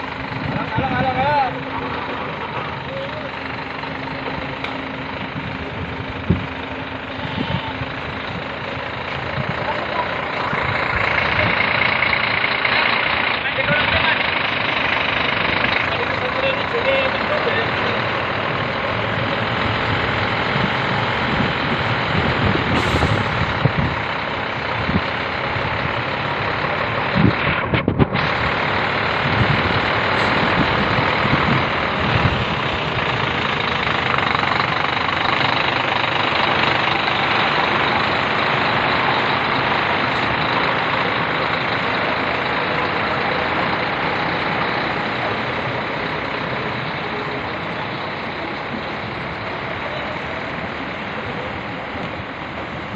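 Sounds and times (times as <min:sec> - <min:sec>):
diesel truck engine running: 0:00.0 - 0:52.9.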